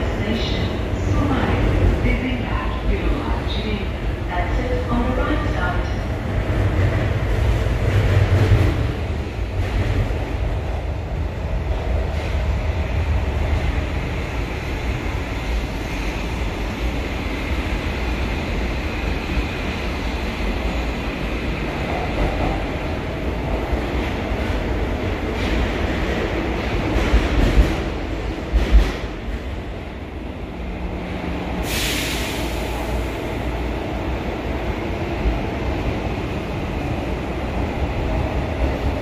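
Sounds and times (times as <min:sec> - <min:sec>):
metro train rumble and rail noise: 0:00.0 - 0:39.0.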